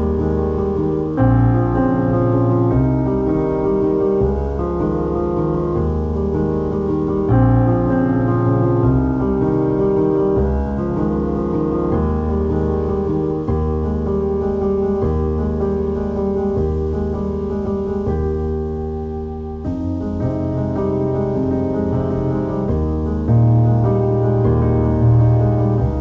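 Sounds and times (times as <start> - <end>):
low bass: 0.0 - 26.0
slow piano chords: 0.0 - 26.0.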